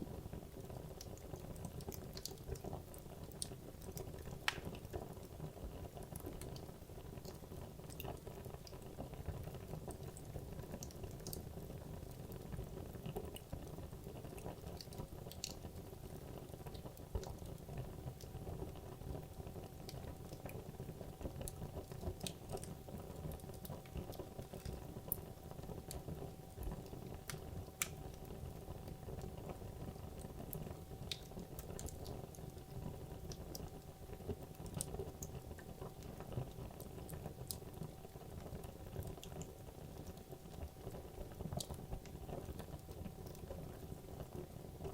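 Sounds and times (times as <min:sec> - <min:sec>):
fire crackling and snapping: 0:00.3 - 0:05.3, 0:09.6 - 0:44.5.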